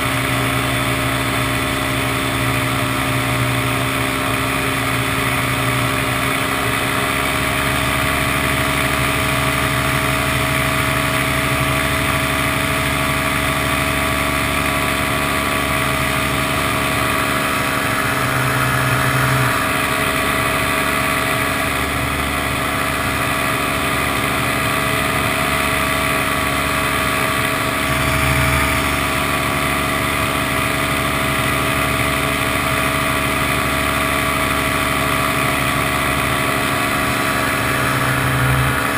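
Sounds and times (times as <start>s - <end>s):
paramotor engine and propeller drone: 0.0s - 38.9s.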